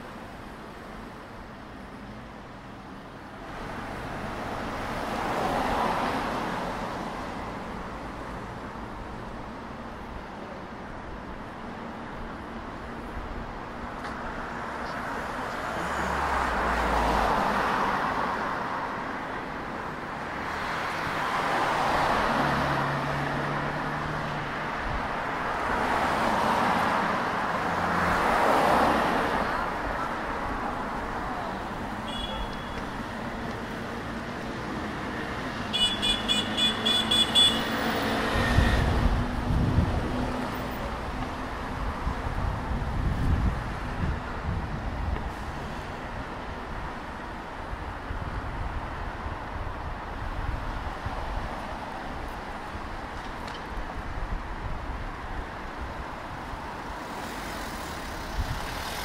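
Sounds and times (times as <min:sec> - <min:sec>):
background traffic hum: 0:00.0 - 0:59.0
cars passing: 0:00.0 - 0:59.0.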